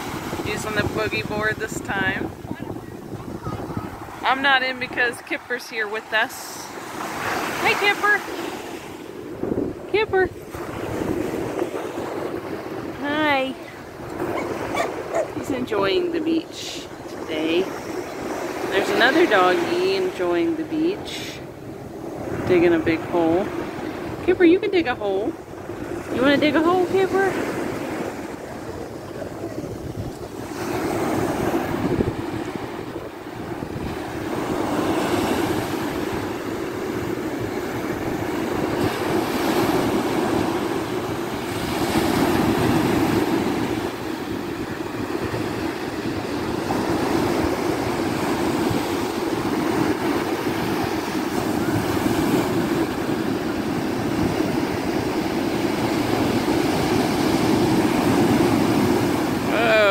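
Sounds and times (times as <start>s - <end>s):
wind on microphone: 0.0s - 5.2s, 6.1s - 59.9s
ocean waves breaking: 0.0s - 59.9s.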